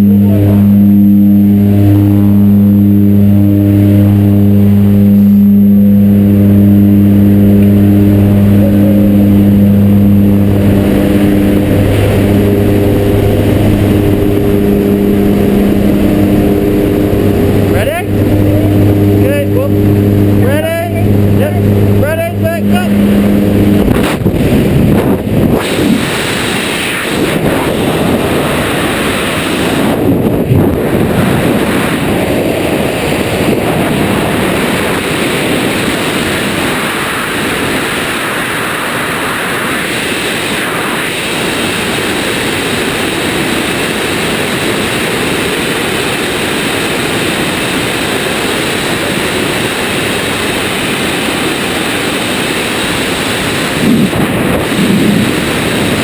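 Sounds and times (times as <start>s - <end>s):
wind roaring over microphone: 0.0s - 56.0s.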